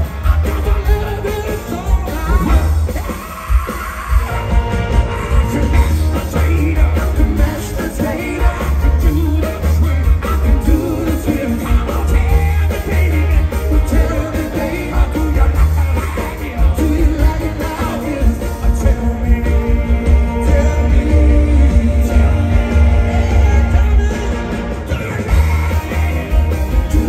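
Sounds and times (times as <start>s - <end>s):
backing vocalists singing: 0.0s - 27.0s
horn section: 0.0s - 27.0s
live rock band playing: 0.0s - 27.0s
men singing lead vocals: 0.0s - 27.0s.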